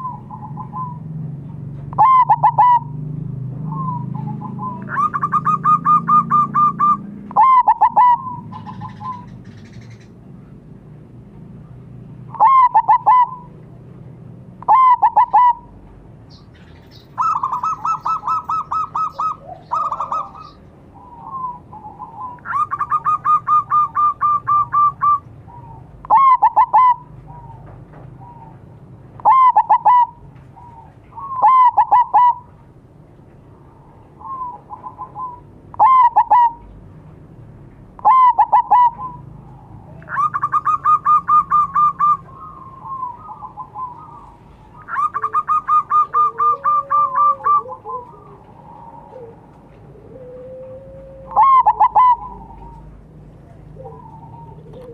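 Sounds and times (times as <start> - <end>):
dove cooing: 0.0 - 10.2, 11.6 - 13.8, 14.6 - 15.8, 16.6 - 32.6, 33.7 - 36.7, 38.0 - 54.9.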